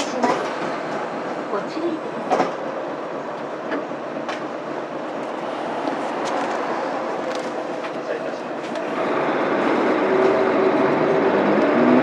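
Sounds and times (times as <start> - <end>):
bus interior engine rumble: 0.0 - 12.0.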